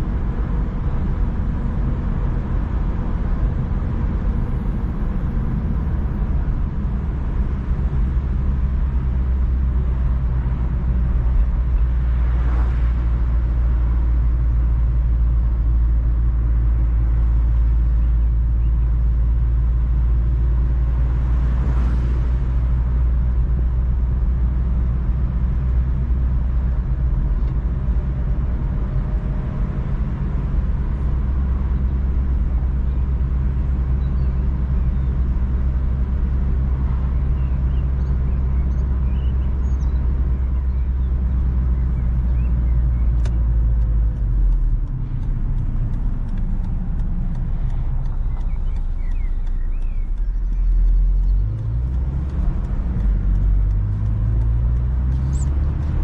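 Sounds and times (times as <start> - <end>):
car engine cruising drone: 0.0 - 56.0.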